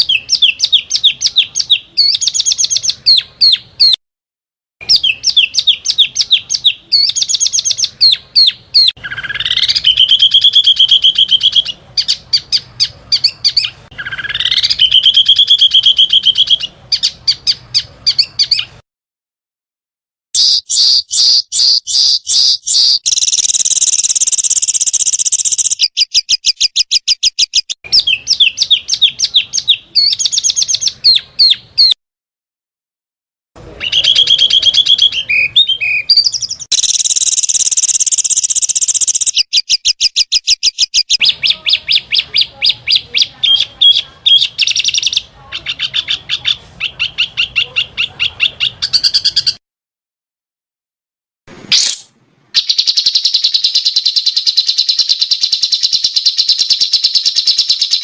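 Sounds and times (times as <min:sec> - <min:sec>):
small songbirds singing: 0:00.0 - 0:04.0, 0:04.8 - 0:18.8, 0:20.4 - 0:32.0, 0:33.8 - 0:49.6, 0:52.6 - 0:58.0.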